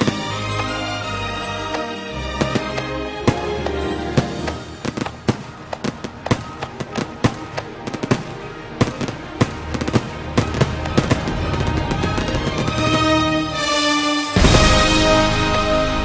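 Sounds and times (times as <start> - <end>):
firework bangs and crackles: 0.0 - 16.0
parade music: 0.0 - 16.0.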